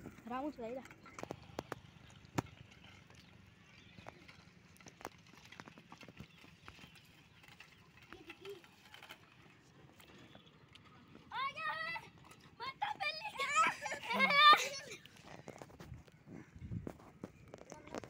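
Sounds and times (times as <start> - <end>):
bicycles clicking and rattling: 0.0 - 18.0.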